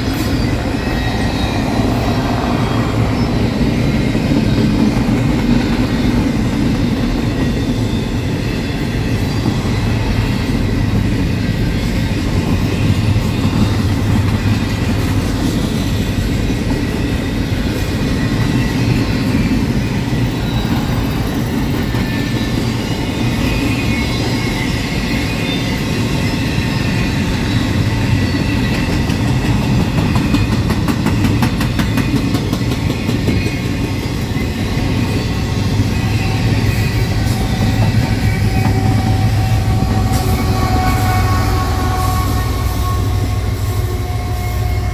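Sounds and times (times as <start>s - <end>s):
clickety-clack over rail joints: 0.0s - 44.4s
high wheel squeal: 0.0s - 44.9s
train wheels rumbling on rail: 0.0s - 44.9s.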